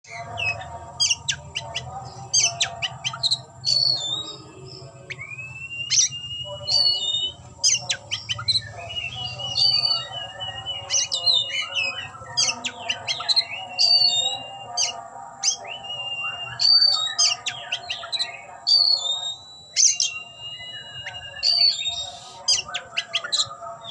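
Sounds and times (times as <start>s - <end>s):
bird singing whistles and chirps: 0.0s - 23.9s.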